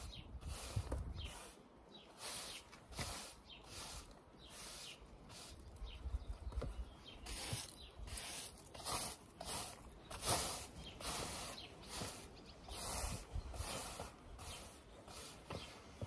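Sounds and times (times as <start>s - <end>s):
push broom sweeping grit: 0.0s - 5.8s, 7.2s - 16.0s.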